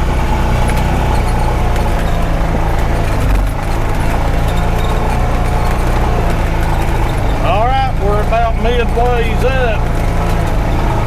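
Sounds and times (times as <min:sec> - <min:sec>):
knocks and rattles over rocks: 0:00.0 - 0:11.0
vehicle engine pulling under load: 0:00.0 - 0:11.0.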